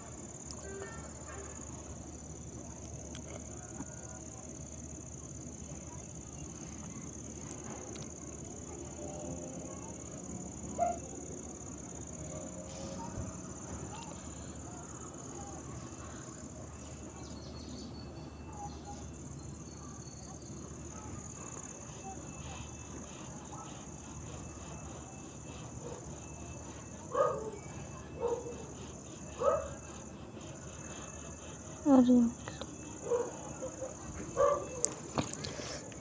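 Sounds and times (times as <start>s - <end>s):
high-pitched insect drone: 4.1s - 36.0s.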